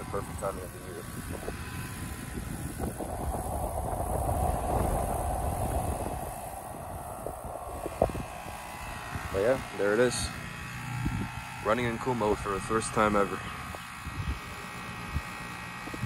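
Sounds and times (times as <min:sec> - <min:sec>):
heat pump fan whooshing hum: 0:00.0 - 0:16.0.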